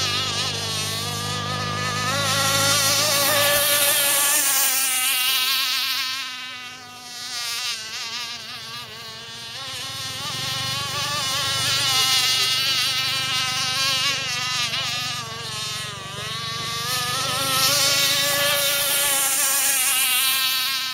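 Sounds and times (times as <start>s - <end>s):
small high-revving boat engine: 0.0s - 20.9s.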